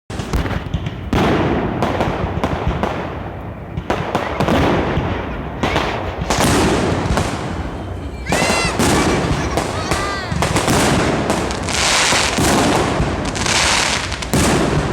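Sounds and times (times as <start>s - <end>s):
crackling rumble: 0.1s - 14.9s
fireworks bangs: 0.1s - 14.9s.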